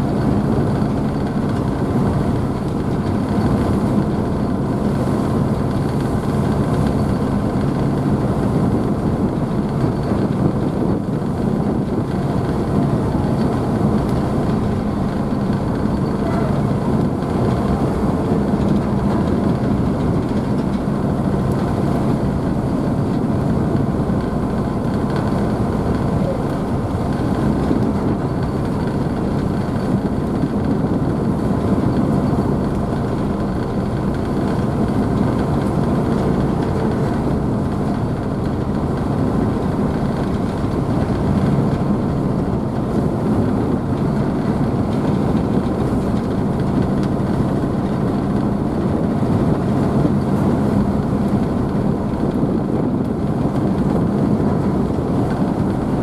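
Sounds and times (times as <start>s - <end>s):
ship engines humming: 0.0s - 56.0s.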